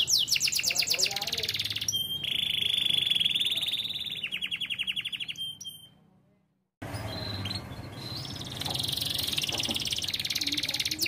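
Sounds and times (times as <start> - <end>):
faint bird chirps: 0.0 - 6.0, 6.9 - 11.0
canary singing: 0.0 - 6.1, 6.8 - 11.0.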